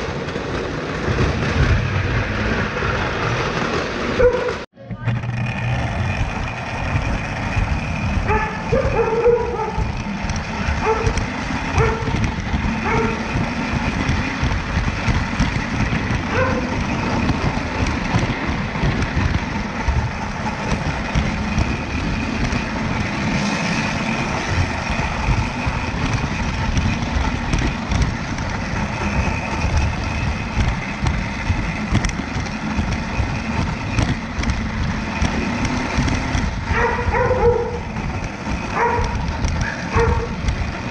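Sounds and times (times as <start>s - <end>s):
model train rumbling: 0.0s - 40.9s
wheels clicking on rails: 0.0s - 40.9s.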